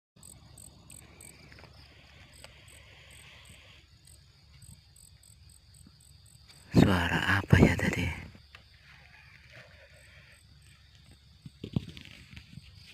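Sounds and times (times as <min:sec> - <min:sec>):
insects chirping: 0:00.2 - 0:12.9
low continuous insect trill: 0:00.2 - 0:12.9.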